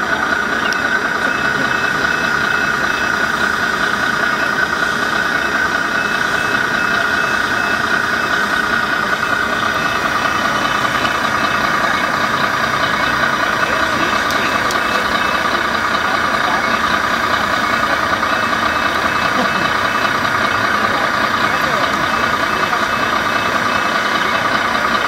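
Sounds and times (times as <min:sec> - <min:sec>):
engine idling with high hum: 0:00.0 - 0:25.0.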